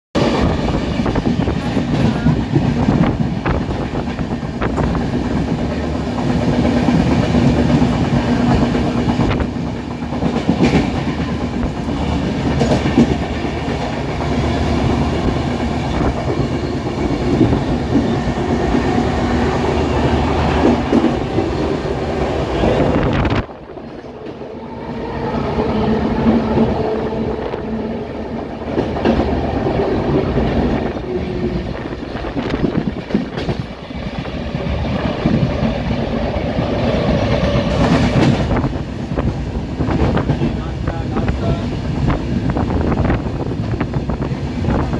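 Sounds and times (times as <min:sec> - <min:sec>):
train rumbling: 0:00.1 - 0:44.9
wheels clacking over rail joints: 0:01.1 - 0:19.8, 0:20.5 - 0:39.3.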